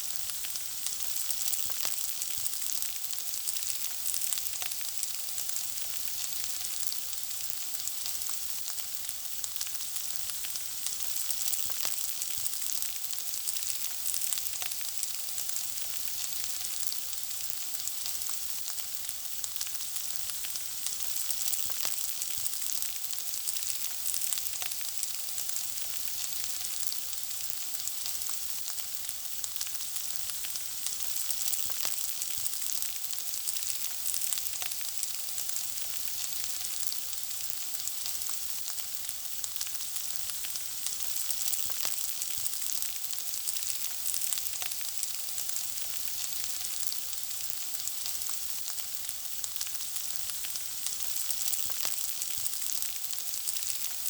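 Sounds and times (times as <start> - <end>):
food frying with crackles: 0.0 - 54.0.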